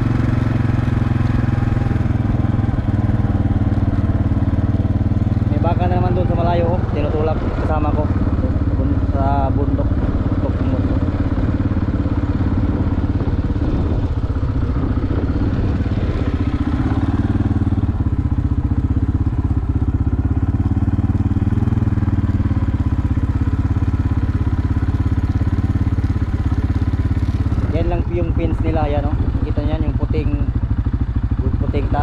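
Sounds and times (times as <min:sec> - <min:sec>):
small engine running: 0:00.0 - 0:30.6.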